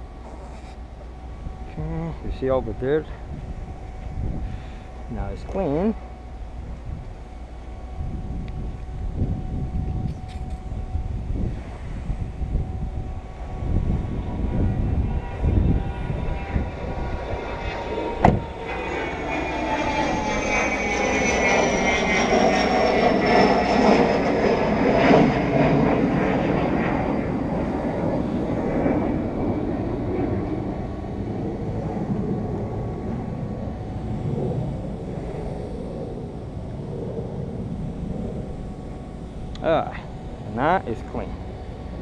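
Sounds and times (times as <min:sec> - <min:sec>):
aircraft rumble passing: 0:00.0 - 0:42.0
whine falling in pitch: 0:00.0 - 0:42.0.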